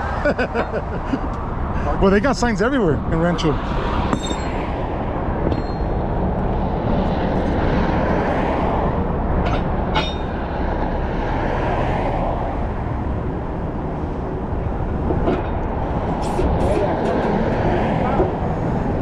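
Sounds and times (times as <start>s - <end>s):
engine and road rumble in truck cab: 0.0s - 2.1s, 3.7s - 19.0s.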